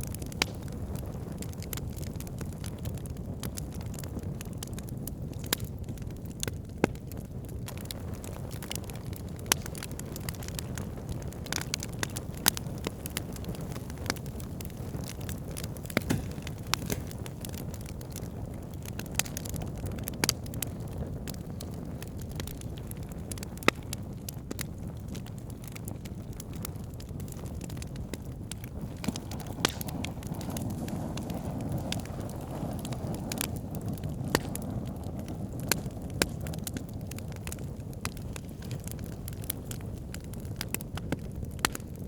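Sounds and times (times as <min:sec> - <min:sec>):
burning wood crackling and popping: 0:00.0 - 0:42.0
campfire flames rumbling: 0:00.0 - 0:42.0.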